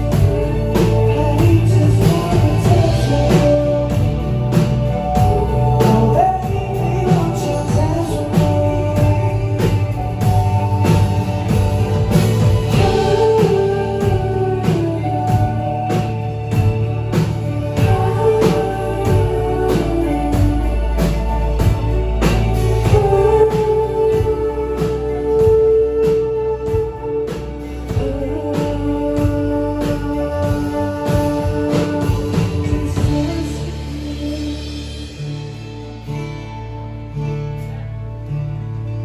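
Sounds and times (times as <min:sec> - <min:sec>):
drum kit beat: 0:00.0 - 0:36.2
bass guitar: 0:00.0 - 0:39.0
electric guitar: 0:00.0 - 0:39.0
gliding held melody: 0:00.0 - 0:39.0.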